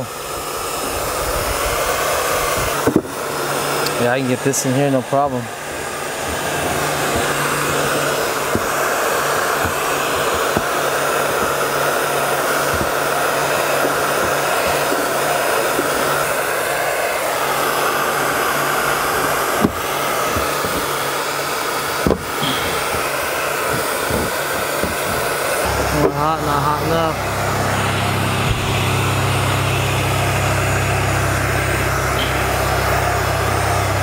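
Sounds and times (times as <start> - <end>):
blow dryer running: 0.0 - 34.0.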